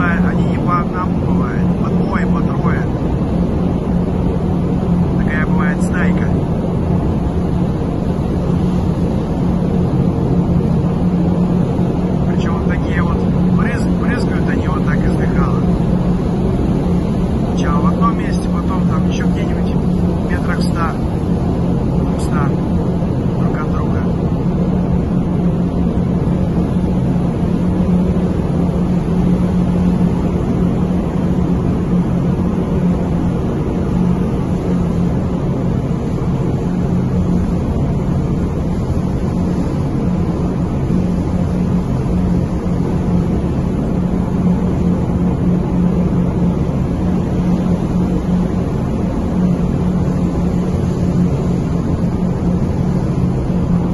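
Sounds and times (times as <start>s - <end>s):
ship engines droning: 0.0s - 53.9s.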